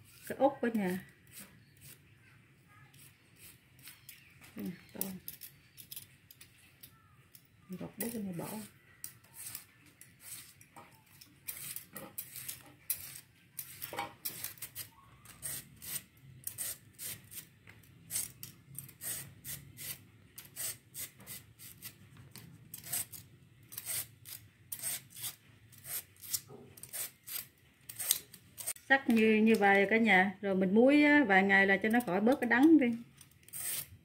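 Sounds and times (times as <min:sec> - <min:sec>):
peeler scraping bamboo shoot: 0:00.0 - 0:02.1, 0:02.9 - 0:05.9, 0:07.9 - 0:17.5, 0:18.1 - 0:22.0, 0:22.7 - 0:29.3, 0:31.8 - 0:34.0.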